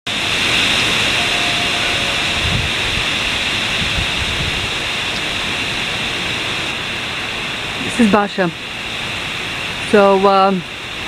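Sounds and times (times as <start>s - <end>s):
heavy rain hissing: 0.1s - 11.0s
wind gusts rumbling on microphone: 0.1s - 11.0s.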